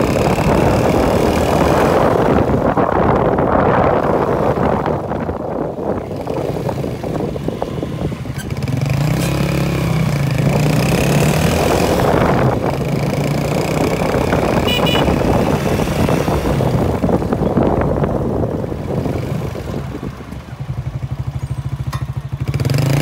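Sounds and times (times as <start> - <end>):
motorcycle engine: 0.0 - 23.0.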